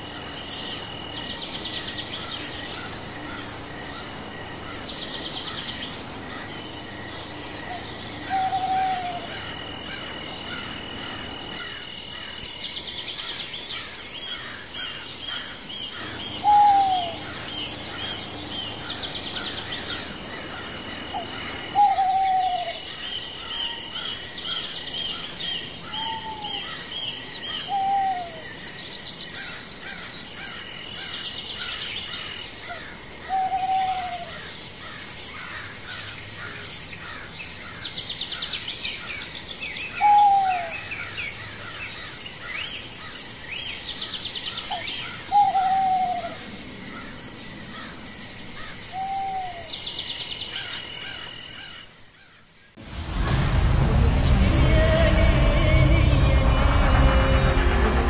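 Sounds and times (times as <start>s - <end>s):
birds twittering: 0.0s - 52.8s
high insect whine: 0.0s - 58.0s.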